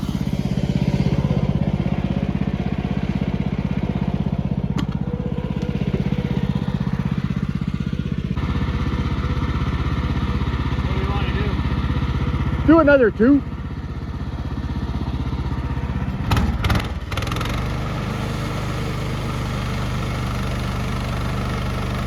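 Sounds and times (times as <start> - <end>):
sawmill engine chugging: 0.0 - 22.0.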